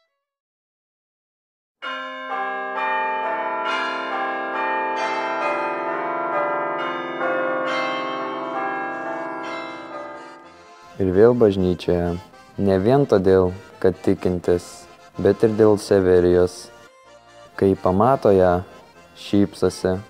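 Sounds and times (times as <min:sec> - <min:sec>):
church bells pealing: 0:01.8 - 0:20.0.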